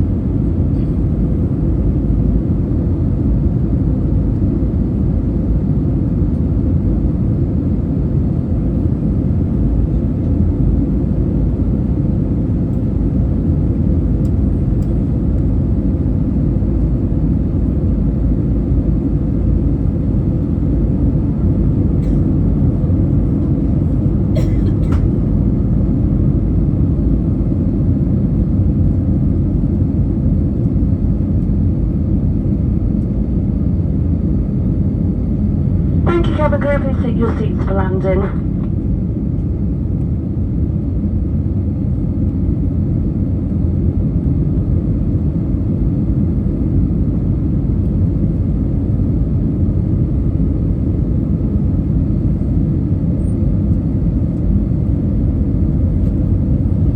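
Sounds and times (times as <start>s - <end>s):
aircraft cabin rumble: 0.0s - 40.9s, 44.3s - 56.9s.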